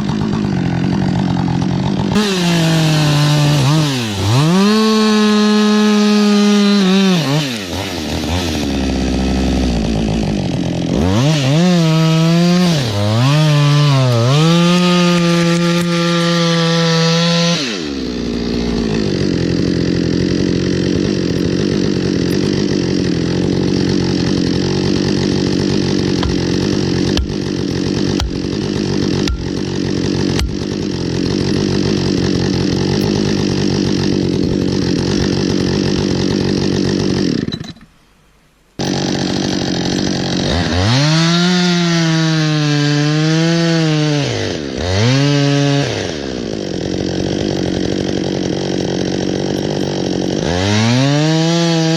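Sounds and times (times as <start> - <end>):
chainsaw cutting wood: 0.0 - 38.0, 38.8 - 51.9.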